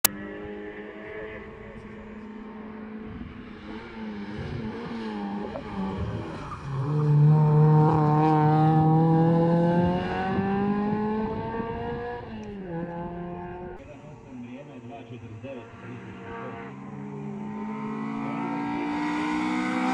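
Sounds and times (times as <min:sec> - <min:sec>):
race car engine accelerating: 0:00.0 - 0:14.4, 0:15.1 - 0:19.9.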